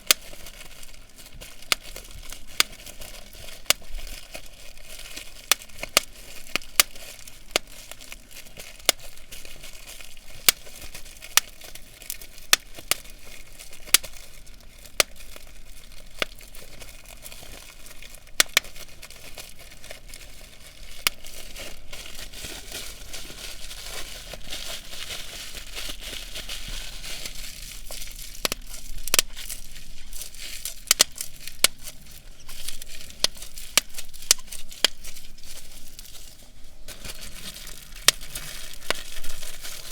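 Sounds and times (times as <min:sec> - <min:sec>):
bubble wrap crinkling: 0:00.0 - 0:39.9
bubble wrap popping: 0:00.0 - 0:39.9.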